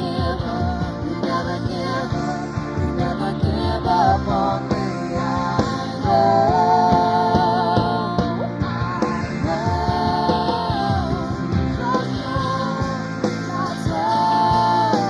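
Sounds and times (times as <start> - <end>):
worship band with drums and guitar: 0.0 - 15.0.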